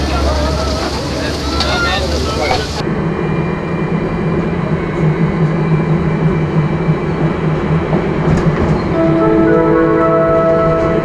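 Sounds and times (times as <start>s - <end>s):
vehicle engine rumbling: 0.0s - 8.9s.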